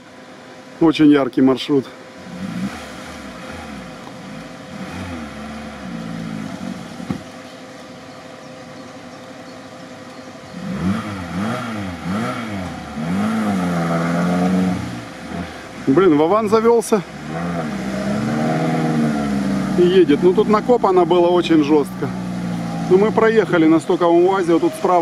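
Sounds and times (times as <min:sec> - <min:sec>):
car engine revving: 0:02.0 - 0:25.0.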